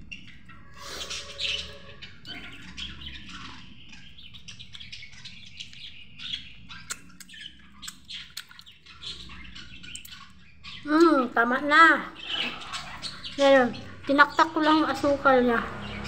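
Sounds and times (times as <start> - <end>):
birds chirping and squawking: 0.0 - 16.0.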